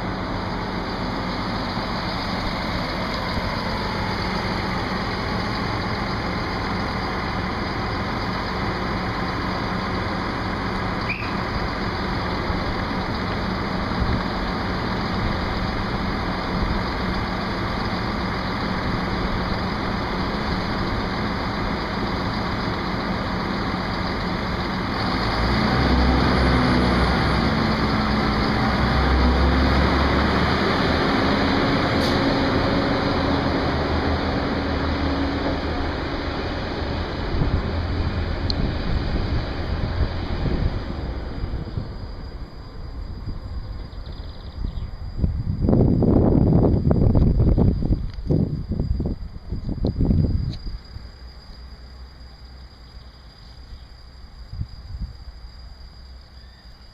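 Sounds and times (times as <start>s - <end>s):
diesel train engine idling and revving: 0.0s - 56.9s.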